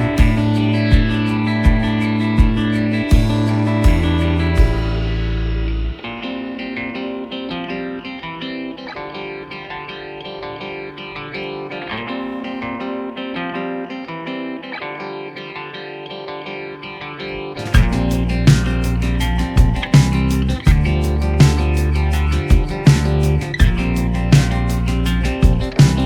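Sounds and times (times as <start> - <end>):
guitar plucking notes: 0.0 - 26.0.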